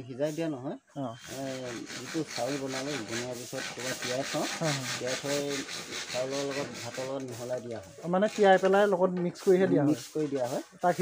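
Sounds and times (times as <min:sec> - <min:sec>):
scratchy rubbing on microphone: 0:01.2 - 0:11.0.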